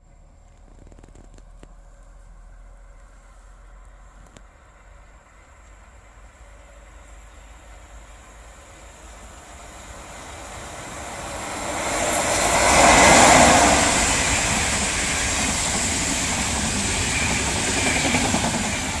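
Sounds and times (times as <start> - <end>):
train wheels on rails: 0.5 - 19.0
electric locomotive passing: 1.9 - 19.0.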